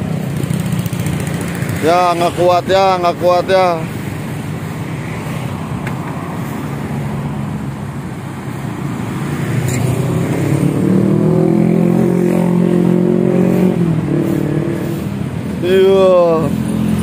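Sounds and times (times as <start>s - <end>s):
motorcycle passing: 0.0s - 17.0s
street traffic: 0.0s - 17.0s.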